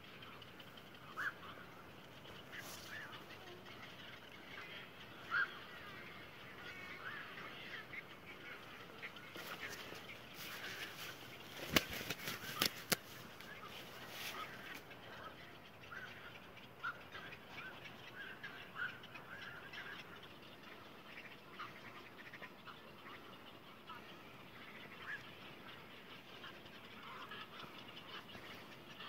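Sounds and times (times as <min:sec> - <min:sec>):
frogs croaking: 0:00.0 - 0:29.0.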